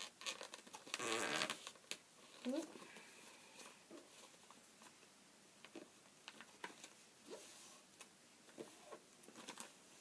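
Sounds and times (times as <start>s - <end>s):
paper rustling and creasing: 0.0s - 5.0s, 5.7s - 10.0s.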